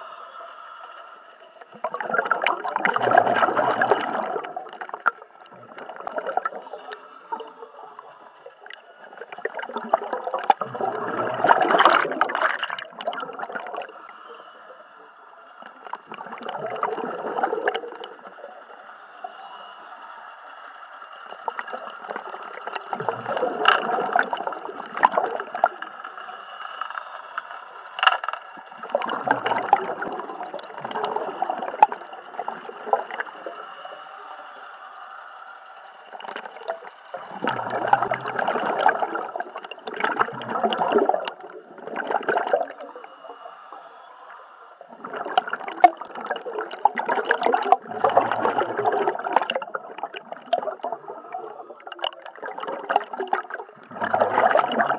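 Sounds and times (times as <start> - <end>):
diver's breath bubbling underwater: 1.6 - 14.8, 15.6 - 18.7, 21.4 - 26.9, 28.6 - 34.6, 36.0 - 54.9.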